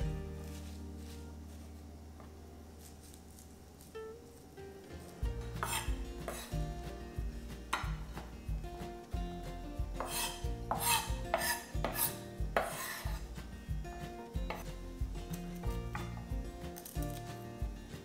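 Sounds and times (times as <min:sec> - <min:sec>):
background music with low bass: 0:00.0 - 0:02.7, 0:04.8 - 0:18.0.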